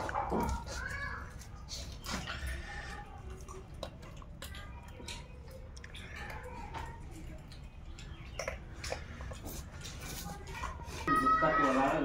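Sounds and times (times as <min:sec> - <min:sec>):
monkey chewing crunchily: 0:00.0 - 0:11.1.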